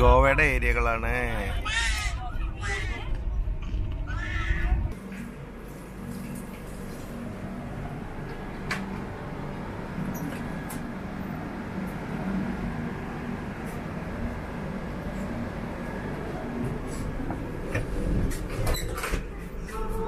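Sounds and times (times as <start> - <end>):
moving train running noise: 0.0 - 20.0.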